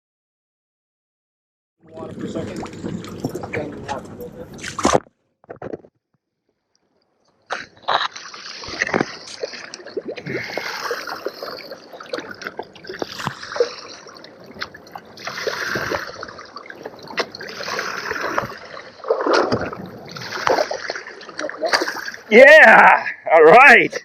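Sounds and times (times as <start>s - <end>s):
water splashing and trickling: 1.8s - 5.1s, 6.6s - 24.0s.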